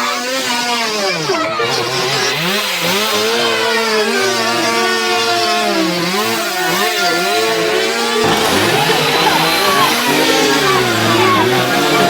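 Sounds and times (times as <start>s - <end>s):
small engine revving: 0.0s - 12.0s.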